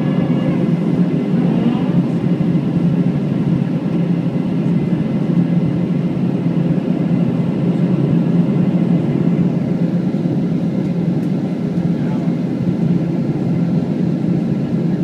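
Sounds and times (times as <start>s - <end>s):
aircraft cabin engine drone: 0.0s - 15.0s.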